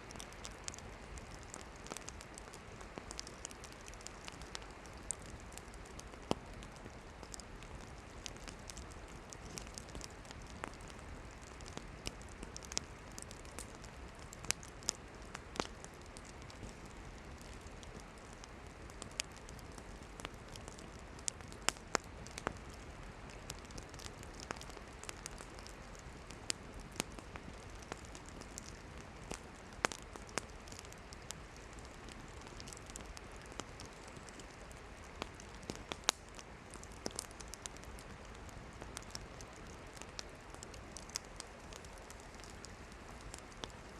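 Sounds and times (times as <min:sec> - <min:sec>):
campfire crackles and pops: 0:00.0 - 0:43.9
soft hiss of flame: 0:00.0 - 0:43.9.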